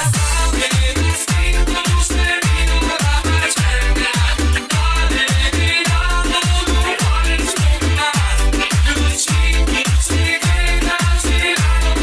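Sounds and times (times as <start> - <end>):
deep bass drum: 0.0 - 11.8
instrumental dance music: 0.0 - 12.0.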